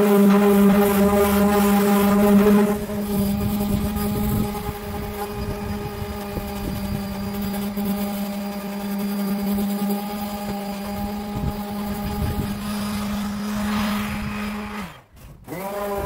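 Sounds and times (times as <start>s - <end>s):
power sander humming: 0.0s - 16.0s.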